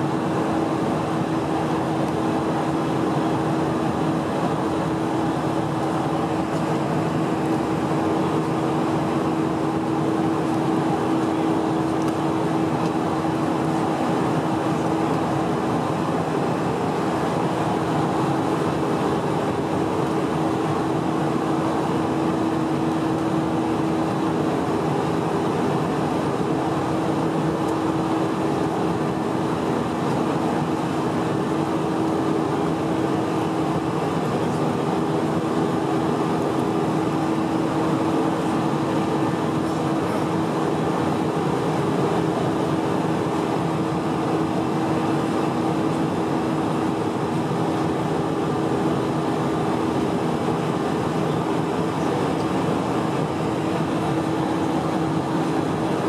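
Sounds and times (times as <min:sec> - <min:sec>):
jet engines running: 0:00.0 - 0:56.0
steady humming tone: 0:00.0 - 0:56.0.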